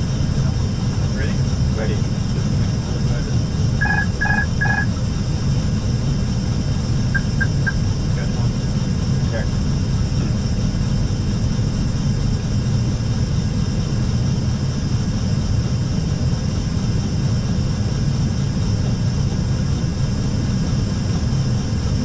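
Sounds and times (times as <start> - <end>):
airflow and engine rumble: 0.0 - 22.0.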